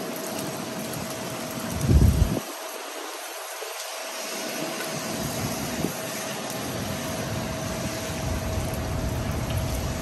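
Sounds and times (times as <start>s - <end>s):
heavy rain on pavement and cars: 0.0s - 10.0s.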